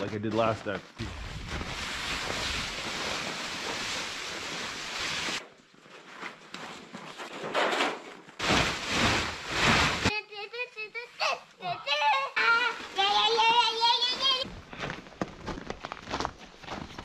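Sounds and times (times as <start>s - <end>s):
nylon tarp rustling and scraping: 0.0s - 10.2s, 12.4s - 16.9s.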